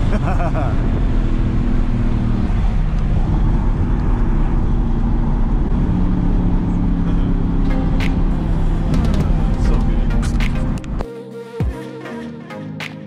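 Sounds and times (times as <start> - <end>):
car engine drone in cabin: 0.0 - 11.0
tyre and road noise: 0.0 - 11.0.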